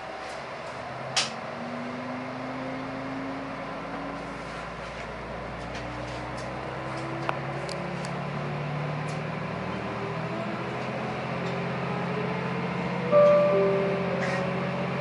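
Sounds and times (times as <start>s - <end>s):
diesel railcar engine: 0.0s - 15.0s.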